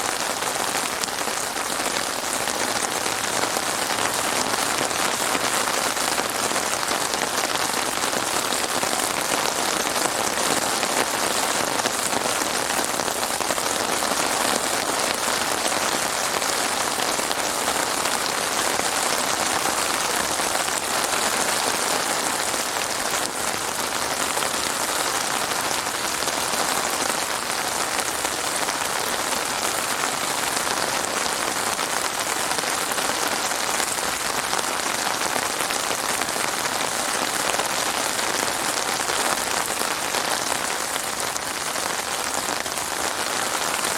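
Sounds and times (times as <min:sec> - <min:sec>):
heavy rain hissing: 0:00.0 - 0:43.9.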